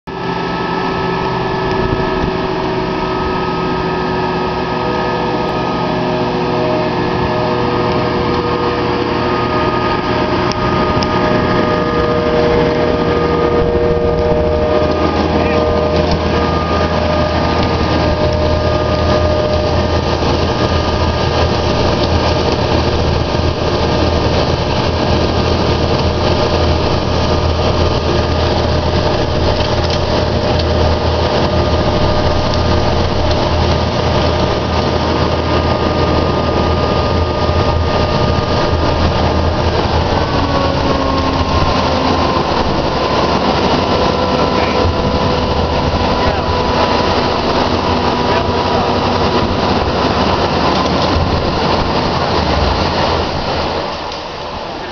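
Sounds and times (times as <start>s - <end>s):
truck vacuum system rushing and whining: 0.0s - 54.9s.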